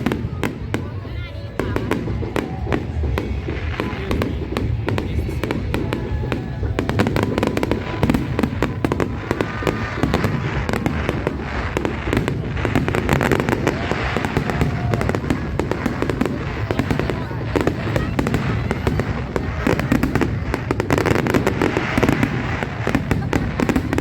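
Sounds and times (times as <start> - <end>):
fireworks bangs and crackles: 0.0 - 24.0
whistling fireworks: 0.0 - 24.0.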